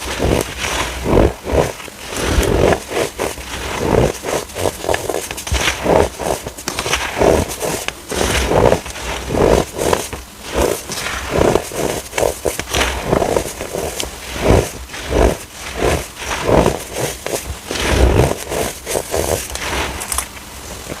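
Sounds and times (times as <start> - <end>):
baking soda crunching: 0.0 - 21.0.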